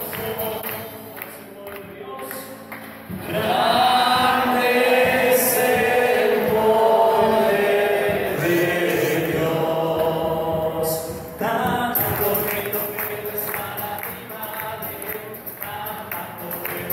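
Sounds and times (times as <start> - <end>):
voices singing a hymn: 0.0 - 16.9.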